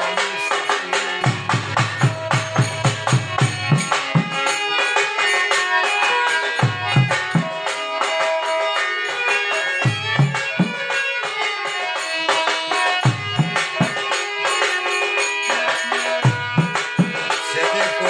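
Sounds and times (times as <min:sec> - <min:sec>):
hand drum beating: 0:00.0 - 0:18.0
harmonium chords: 0:00.0 - 0:18.0
violin melody: 0:00.0 - 0:18.0.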